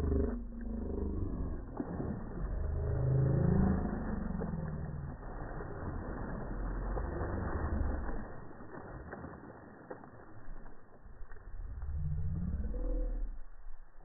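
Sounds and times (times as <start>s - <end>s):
heavy water splashing: 0.0s - 11.8s.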